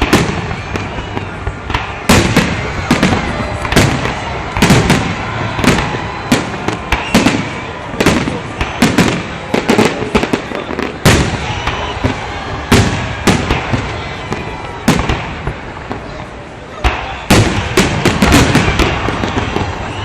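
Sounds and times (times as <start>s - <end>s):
fireworks bursting with echo: 0.0s - 20.0s.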